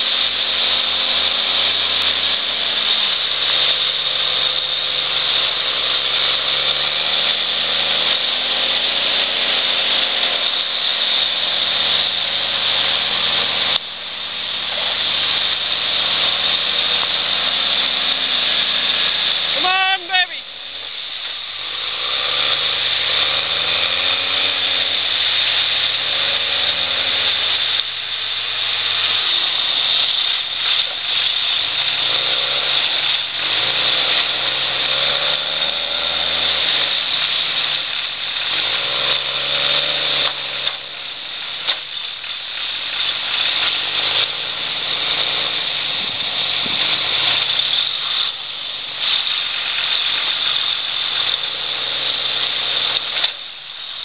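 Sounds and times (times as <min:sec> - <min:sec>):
diesel engines revving under load: 0:00.0 - 0:54.0.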